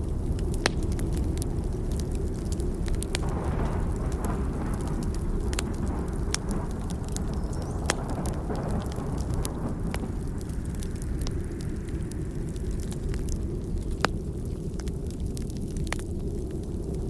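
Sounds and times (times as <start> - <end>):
distant thunder rumble: 0.0 - 13.8
burning log crackling and popping: 0.0 - 17.0.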